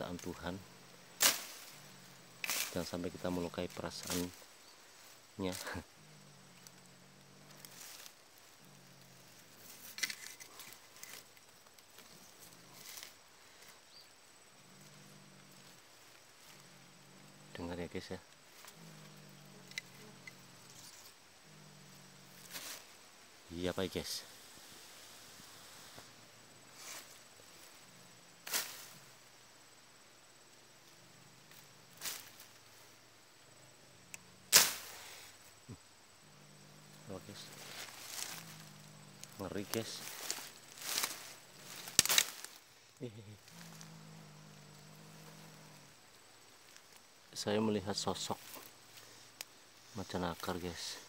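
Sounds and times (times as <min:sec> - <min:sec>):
undergrowth rustling and crackling: 0:00.0 - 0:30.0, 0:30.6 - 0:51.0
faint low hum: 0:00.0 - 0:51.0
wild cat hissing: 0:00.0 - 0:51.0.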